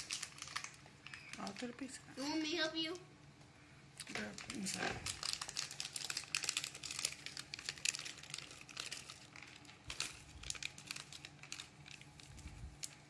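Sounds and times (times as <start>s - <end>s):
plastic packaging crinkling: 0.0s - 2.5s, 4.0s - 13.0s.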